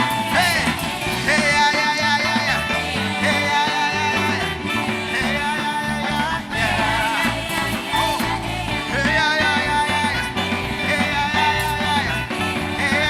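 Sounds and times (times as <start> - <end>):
live band playing: 0.0 - 13.0
person singing: 0.0 - 13.0.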